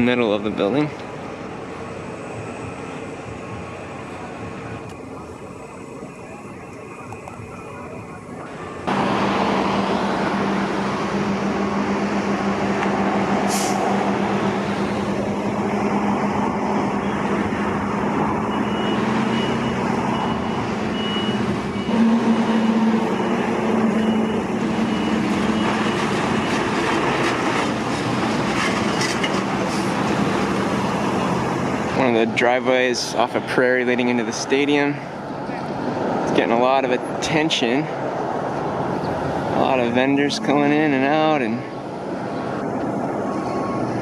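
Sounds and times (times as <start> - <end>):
vehicle engine and road noise: 0.0 - 44.0.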